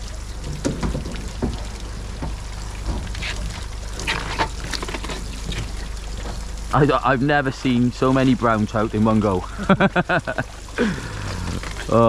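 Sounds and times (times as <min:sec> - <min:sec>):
low steady hum: 0:00.0 - 0:12.0
water splashing and dripping: 0:00.0 - 0:12.0.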